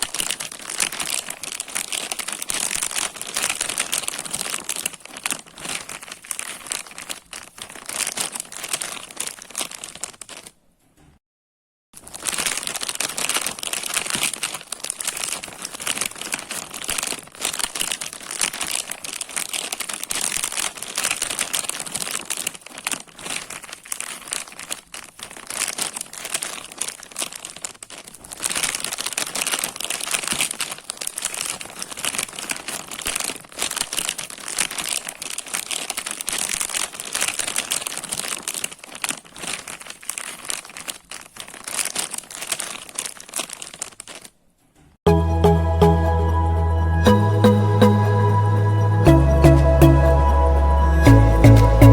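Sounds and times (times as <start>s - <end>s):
plastic bag crinkling: 0.0s - 11.0s, 12.0s - 44.9s.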